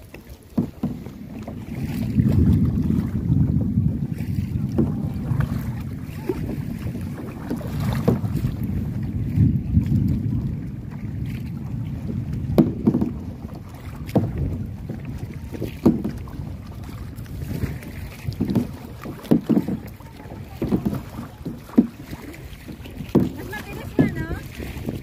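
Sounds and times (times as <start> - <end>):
paddle strokes in water: 0.0 - 25.0
wind on microphone: 0.0 - 25.0.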